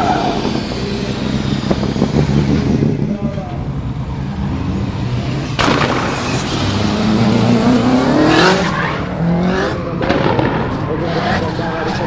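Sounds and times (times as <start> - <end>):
car engine revving hard: 0.0 - 12.0
tyres squealing: 0.0 - 12.0.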